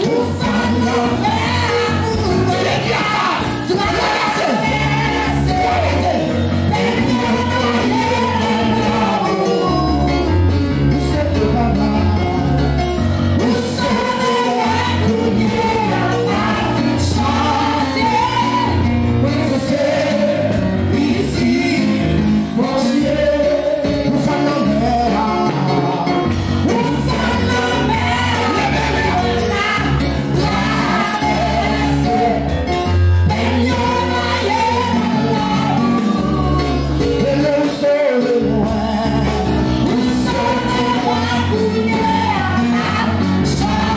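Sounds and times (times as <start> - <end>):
amplified instrumental accompaniment: 0.0 - 43.9
congregation singing: 0.0 - 43.9.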